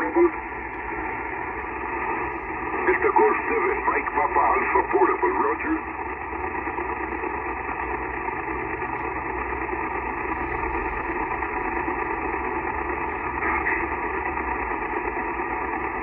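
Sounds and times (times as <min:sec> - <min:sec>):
radio static hiss: 0:00.0 - 0:07.9, 0:09.2 - 0:16.0.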